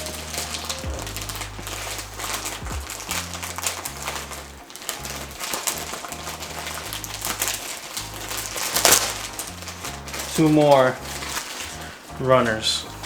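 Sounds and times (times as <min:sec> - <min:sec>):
background music with bass line: 0:00.0 - 0:13.0
plastic bags crinkling: 0:00.0 - 0:13.0.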